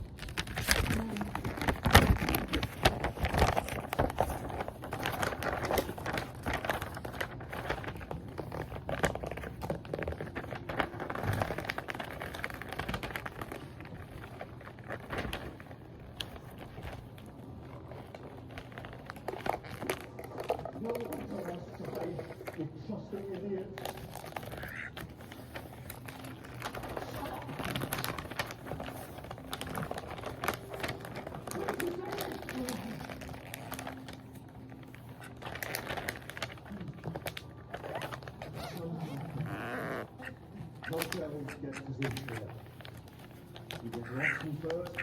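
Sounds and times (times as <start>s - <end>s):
wrapping paper crinkling: 0.0s - 45.0s.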